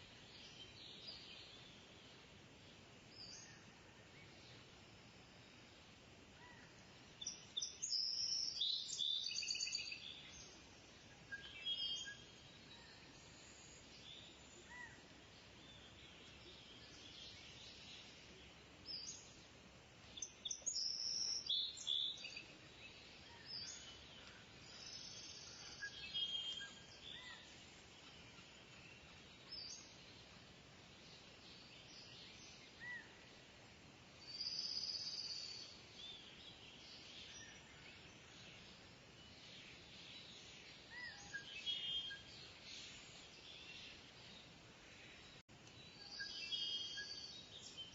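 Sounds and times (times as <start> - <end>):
faint background chirping: 0.0 - 47.9.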